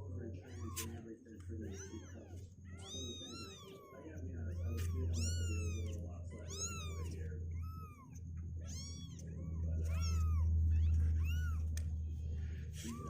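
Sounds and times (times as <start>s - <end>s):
kittens mewing: 0.0s - 12.0s, 12.6s - 13.0s
low steady hum: 0.0s - 13.0s.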